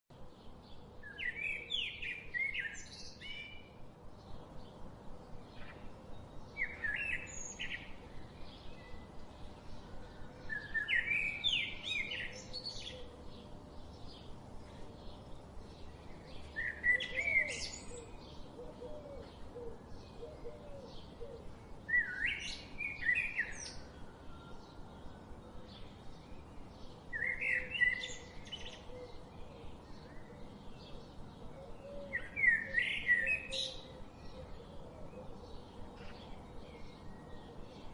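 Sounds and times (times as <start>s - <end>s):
songbird singing: 0.1s - 37.9s.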